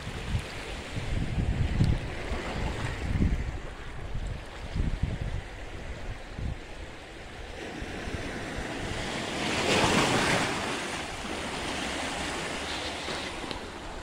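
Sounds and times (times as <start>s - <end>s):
waves breaking on rocky shore: 0.0s - 14.0s
wind buffeting microphone: 0.0s - 14.0s.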